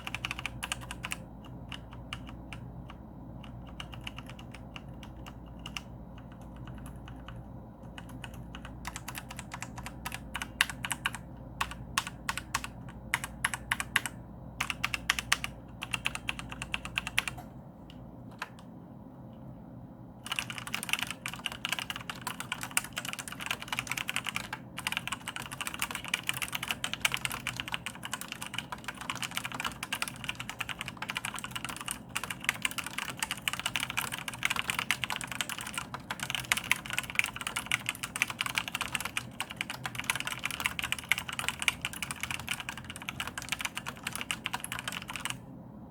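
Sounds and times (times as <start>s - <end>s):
typing on mechanical keyboard: 0.0s - 17.5s, 20.2s - 45.4s.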